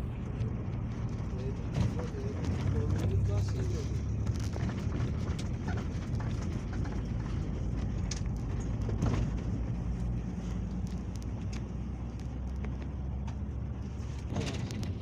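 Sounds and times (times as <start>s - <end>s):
vehicle engine and road rumble: 0.0s - 15.0s
small rattles and clicks: 0.3s - 15.0s.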